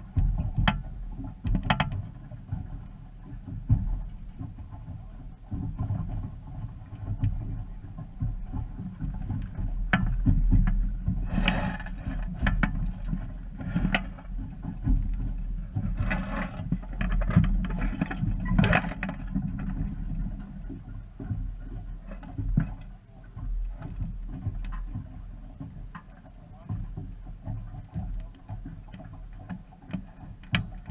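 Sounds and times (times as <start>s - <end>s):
water splashing against hull: 0.0s - 30.9s.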